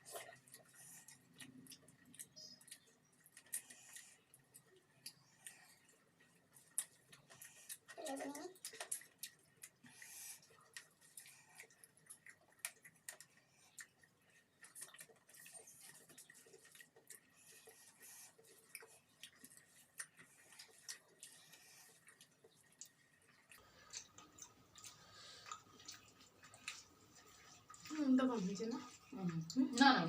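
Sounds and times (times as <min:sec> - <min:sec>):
mouth clicks and smacks eating: 0:00.0 - 0:30.0.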